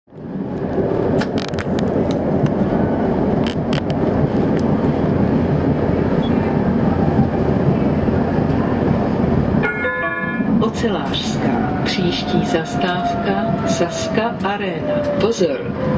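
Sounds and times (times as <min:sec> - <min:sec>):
tram wheels rumbling on rails: 0:00.1 - 0:15.9.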